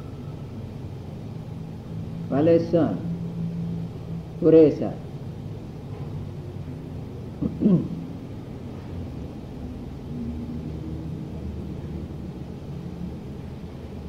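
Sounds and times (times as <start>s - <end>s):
tape low rumble and hiss: 0.0s - 14.0s.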